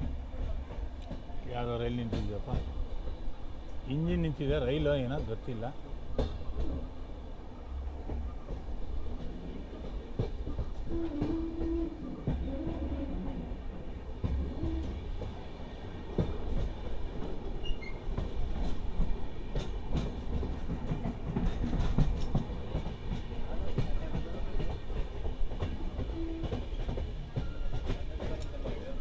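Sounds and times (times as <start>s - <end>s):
wheels clacking over rail joints: 0.0s - 3.2s, 8.0s - 29.0s
train rumbling: 0.0s - 29.0s.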